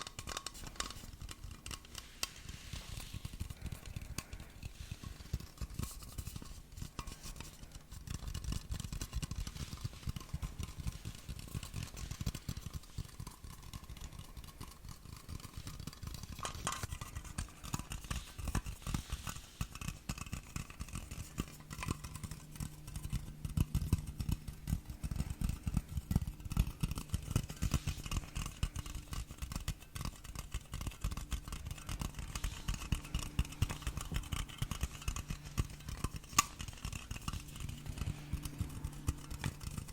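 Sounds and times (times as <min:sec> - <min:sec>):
fast tapping on hard object: 0:00.0 - 0:39.9.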